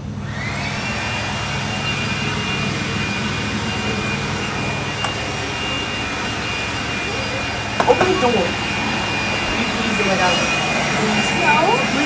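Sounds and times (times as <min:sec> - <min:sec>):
engine drone with high whine: 0:00.0 - 0:12.0.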